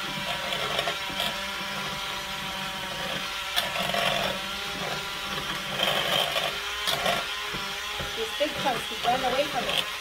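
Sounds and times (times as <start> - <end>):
hand mixer motor hum: 0.0 - 10.0.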